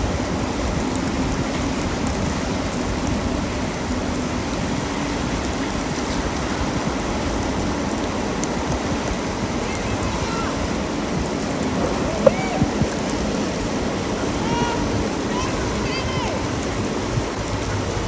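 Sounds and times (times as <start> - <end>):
flowing river water: 0.0 - 18.0
wind buffeting microphone: 0.0 - 18.0.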